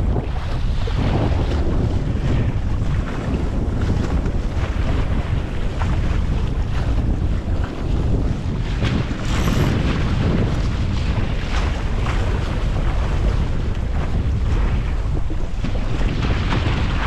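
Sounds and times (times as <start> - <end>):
water splashing along boat hull: 0.0 - 17.0
wind buffeting microphone: 0.0 - 17.0.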